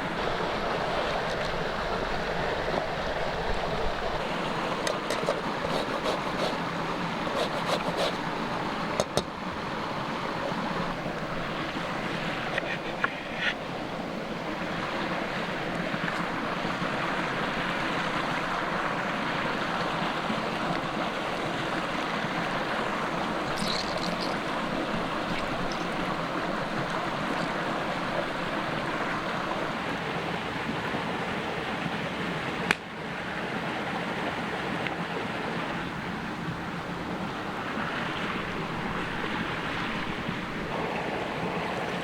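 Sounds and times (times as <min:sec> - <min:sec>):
creek water rushing: 0:00.0 - 0:42.0.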